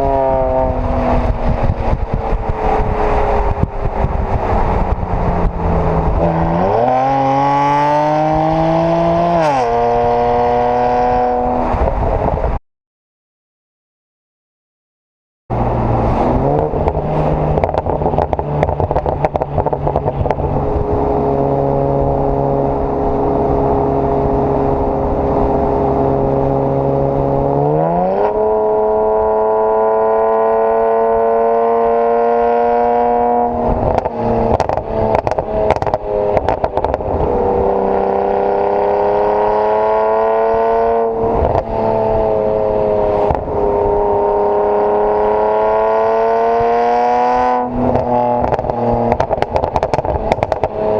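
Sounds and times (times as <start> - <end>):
car engine revving: 0.0 - 12.1, 15.5 - 50.9.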